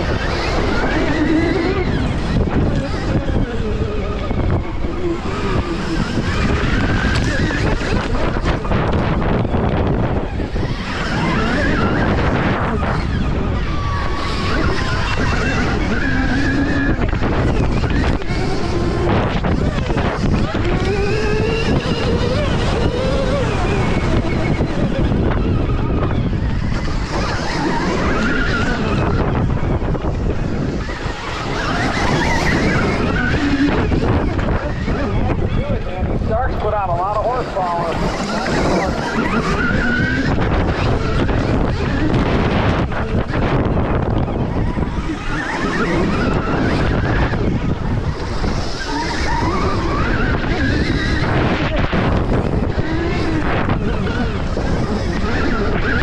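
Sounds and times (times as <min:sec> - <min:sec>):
electric motorbike motor whine: 0:00.0 - 0:56.0
wind noise on microphone: 0:00.0 - 0:56.0.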